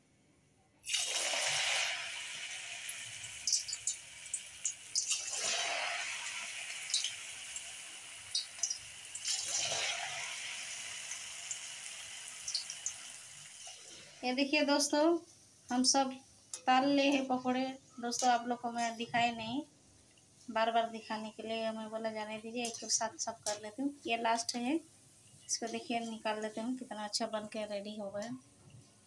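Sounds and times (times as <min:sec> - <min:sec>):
batter deep-frying in hot oil: 0:00.8 - 0:19.4, 0:20.2 - 0:28.4.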